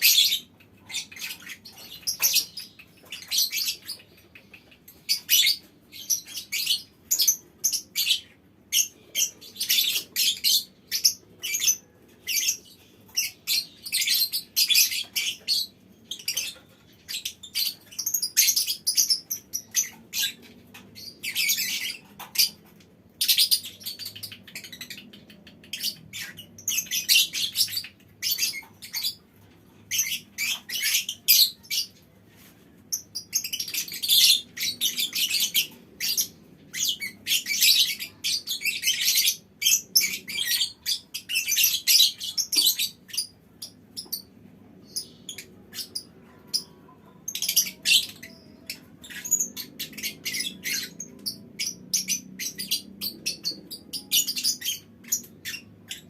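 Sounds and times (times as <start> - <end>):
lovebirds chattering: 0.0 - 56.0.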